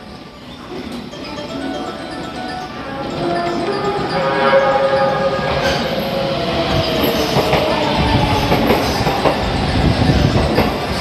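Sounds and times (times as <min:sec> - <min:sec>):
electric train rolling slowly: 0:00.0 - 0:11.0.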